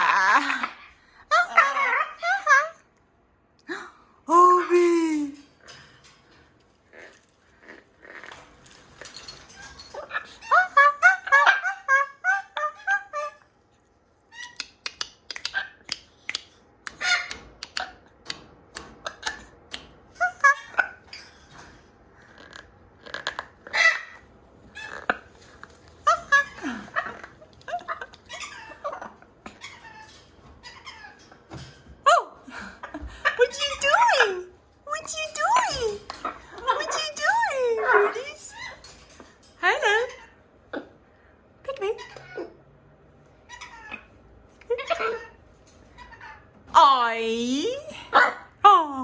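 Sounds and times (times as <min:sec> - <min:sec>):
parrots squeaking and chirping: 0:00.0 - 0:02.9, 0:04.8 - 0:41.1, 0:41.7 - 0:46.7.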